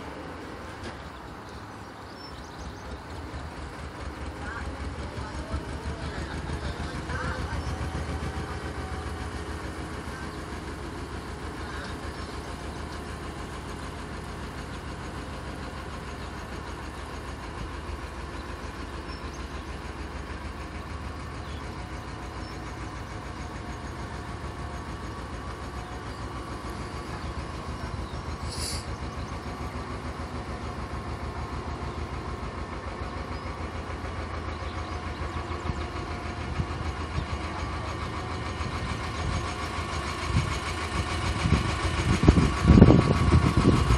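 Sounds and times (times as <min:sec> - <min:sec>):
diesel boat engine running: 0:00.0 - 0:43.9.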